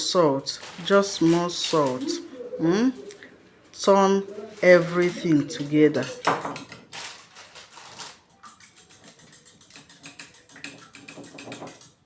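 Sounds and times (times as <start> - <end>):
utensil beating eggs in bowl: 0.5 - 3.2, 3.8 - 6.8, 7.6 - 12.0.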